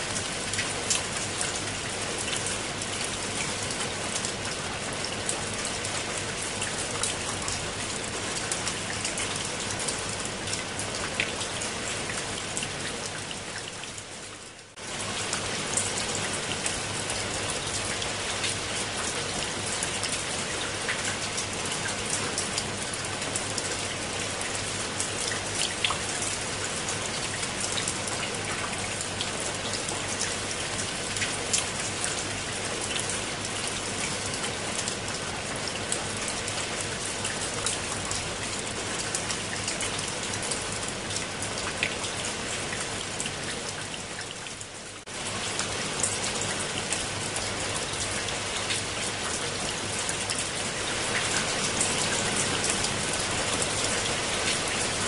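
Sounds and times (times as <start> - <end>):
rain on leaves and stone: 0.0 - 55.0.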